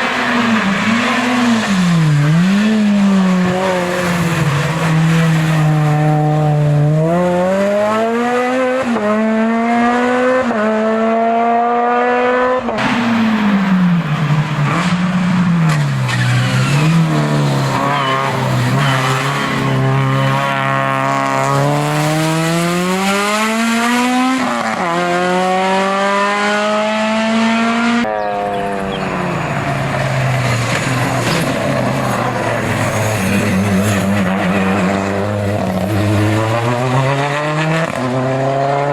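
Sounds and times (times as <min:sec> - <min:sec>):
racing car engines at high revs: 0:00.0 - 0:38.9.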